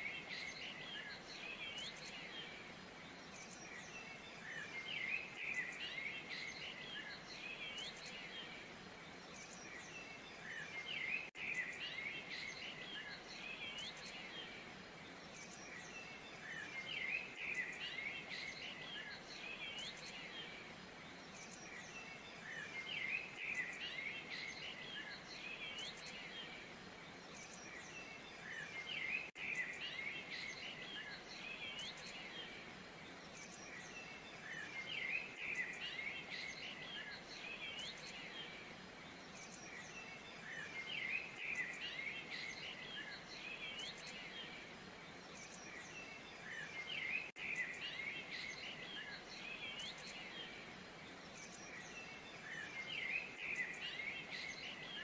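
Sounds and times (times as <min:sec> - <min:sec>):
outdoor ambience hiss: 0:00.0 - 0:55.0
songbirds chirping: 0:00.0 - 0:55.0.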